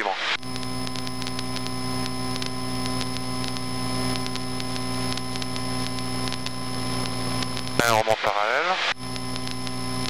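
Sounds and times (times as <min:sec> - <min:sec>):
electrical hum and buzz: 0:00.0 - 0:10.0.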